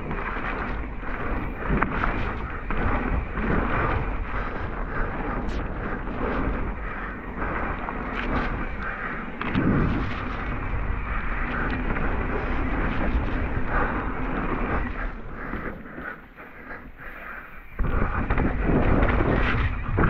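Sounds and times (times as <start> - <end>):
bike rattling over bumps: 0.0 - 20.0
bike tyres rolling on mud: 0.0 - 20.0
wind buffeting microphone: 0.0 - 20.0.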